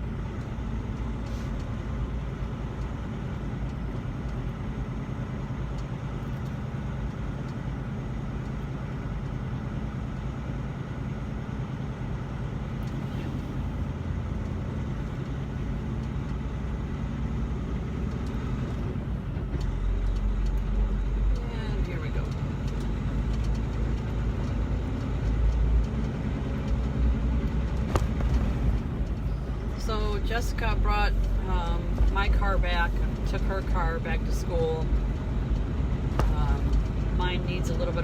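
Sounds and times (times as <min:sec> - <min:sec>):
road noise: 0:00.0 - 0:38.0
truck diesel engine drone: 0:00.0 - 0:38.0.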